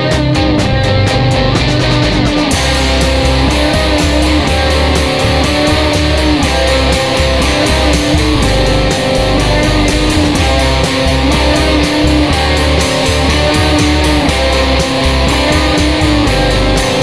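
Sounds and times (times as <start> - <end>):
bass line: 0.0 - 17.0
electric guitar: 0.0 - 17.0
steady drum beat: 0.0 - 17.0.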